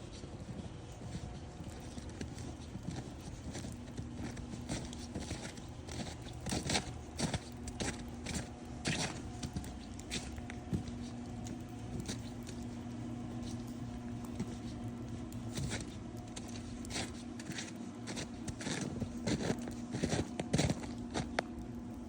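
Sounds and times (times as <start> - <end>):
footsteps crunching in snow: 0.0 - 22.0
steady low hum: 0.0 - 22.0.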